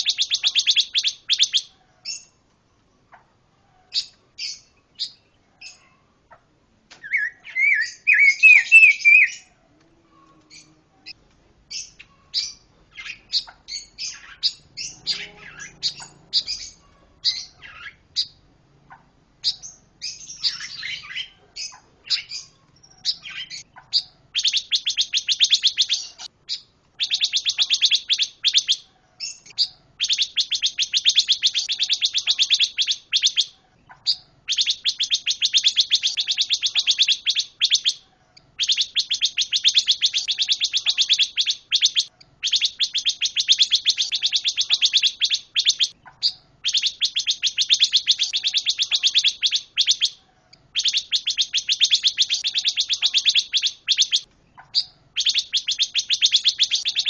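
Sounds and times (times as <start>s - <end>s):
songbird chattering trills: 0.0s - 2.3s, 7.1s - 9.5s, 10.5s - 57.0s.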